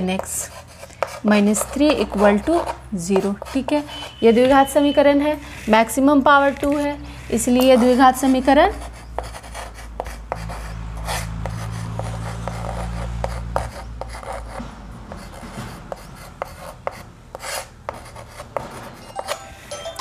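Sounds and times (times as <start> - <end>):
chalk tapping on board: 0.0 - 4.7, 6.5 - 19.5
chalk scratching on blackboard: 0.0 - 19.7.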